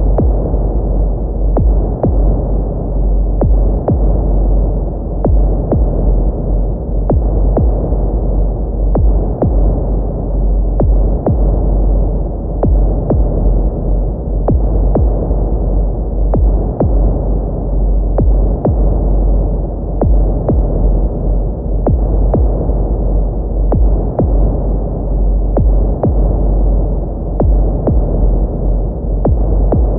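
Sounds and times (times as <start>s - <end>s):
heartbeat double thumps: 0.0s - 29.9s
low droning hum: 0.0s - 29.9s.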